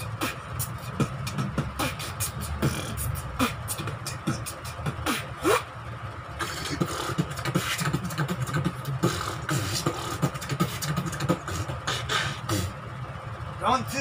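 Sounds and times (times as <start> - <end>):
beatboxing bass pulses and clicks: 0.0 - 5.7, 6.4 - 12.8.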